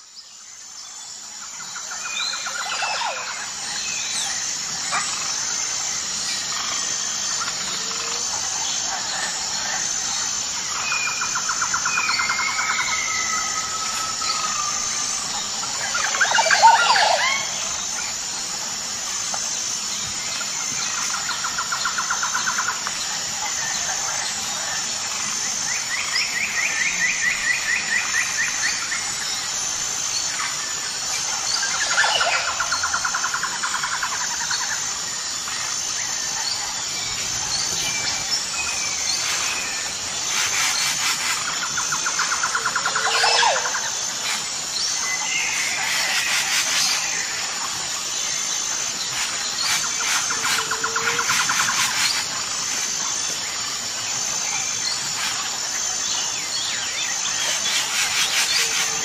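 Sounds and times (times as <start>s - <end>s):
constant hiss: 0.0s - 59.0s.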